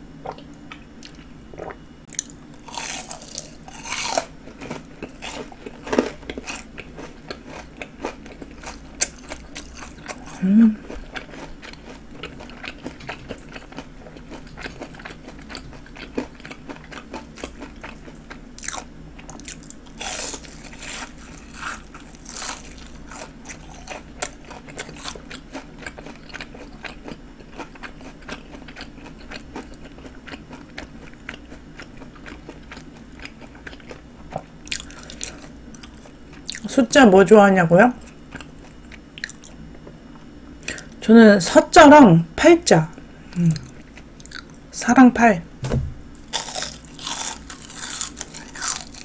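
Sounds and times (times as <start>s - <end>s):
person chewing crunchy fried food: 0.2s - 36.7s, 38.0s - 41.0s, 43.3s - 44.6s, 46.1s - 49.0s.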